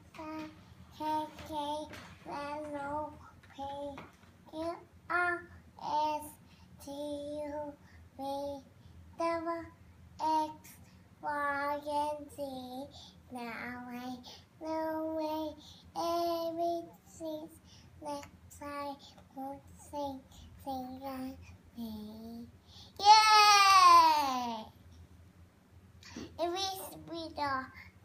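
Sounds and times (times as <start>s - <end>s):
child singing: 0.0s - 8.6s, 9.2s - 24.7s.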